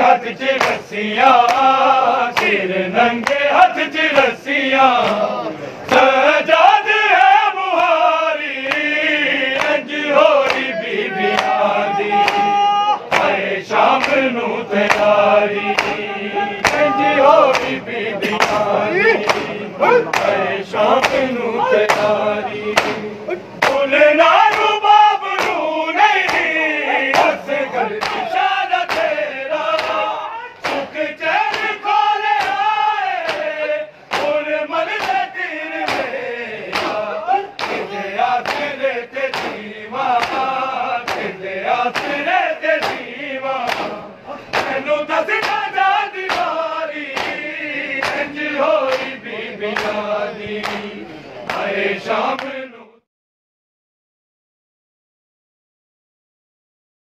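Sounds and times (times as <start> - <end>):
rhythmic chest-beating: 0.0 - 52.8
crowd of men chanting: 0.0 - 53.1.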